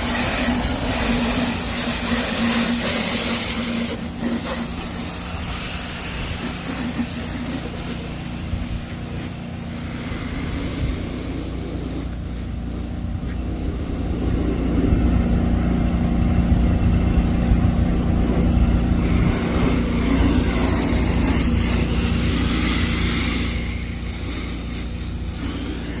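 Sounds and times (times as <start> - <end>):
motor and pump humming: 0.0 - 26.0
spray hissing: 0.0 - 26.0.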